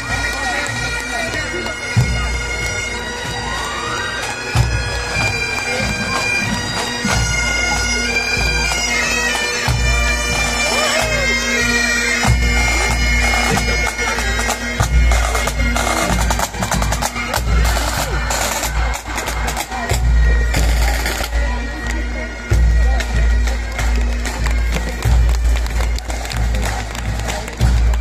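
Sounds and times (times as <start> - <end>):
bagpipes playing a tune: 0.0 - 28.0.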